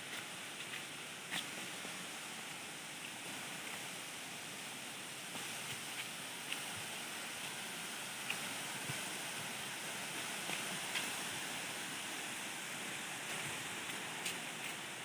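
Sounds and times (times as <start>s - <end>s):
waterfall rushing onto rocks: 0.0s - 15.0s.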